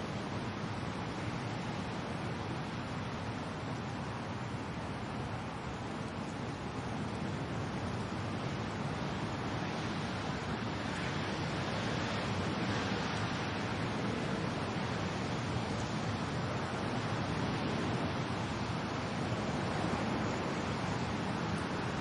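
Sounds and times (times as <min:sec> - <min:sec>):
rain: 0:00.0 - 0:22.0
wind: 0:00.0 - 0:22.0.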